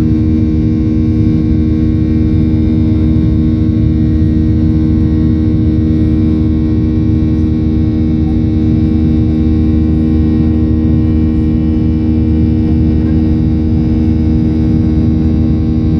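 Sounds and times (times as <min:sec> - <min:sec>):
jet engine rumble in cabin: 0:00.0 - 0:15.9.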